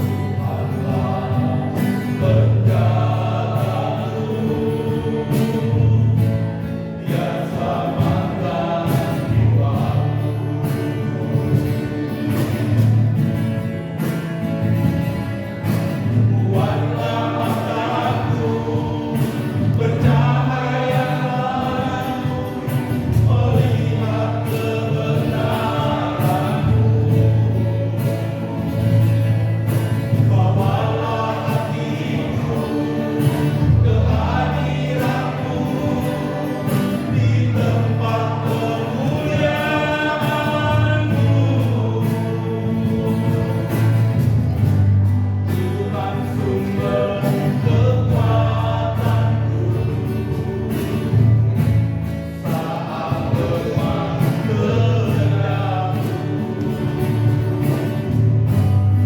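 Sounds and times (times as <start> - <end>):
choir singing gospel song: 0.0 - 59.0.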